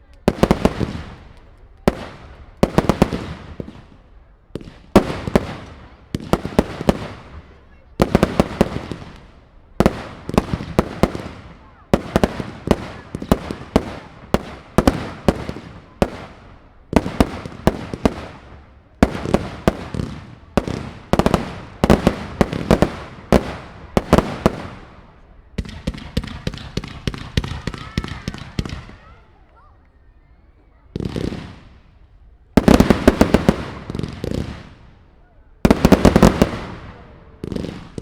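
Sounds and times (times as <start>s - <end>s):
fireworks bangs: 0.0s - 29.7s, 30.4s - 38.0s.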